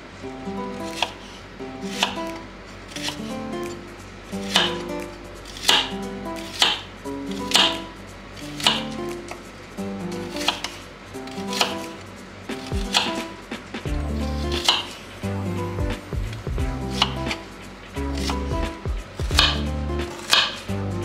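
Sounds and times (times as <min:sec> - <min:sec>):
knife cutting onion on board: 0:00.7 - 0:09.4, 0:10.2 - 0:15.1, 0:15.7 - 0:20.8
background music: 0:03.0 - 0:21.0.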